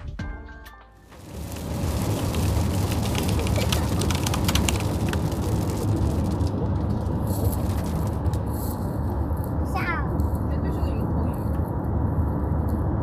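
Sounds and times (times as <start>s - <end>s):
road and engine rumble: 1.0s - 13.0s
rain ticking on window glass: 1.1s - 12.8s.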